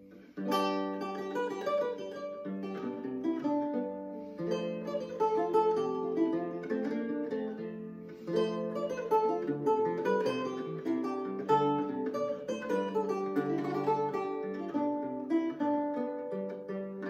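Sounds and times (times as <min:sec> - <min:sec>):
lute played fingerstyle: 0:00.0 - 0:17.0.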